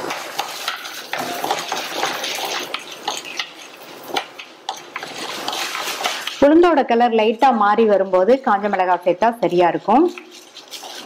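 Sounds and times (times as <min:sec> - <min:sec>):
wooden spoon scraping and tapping pan: 0:00.0 - 0:07.6, 0:08.3 - 0:11.0
lentils sizzling in hot oil: 0:00.0 - 0:11.0.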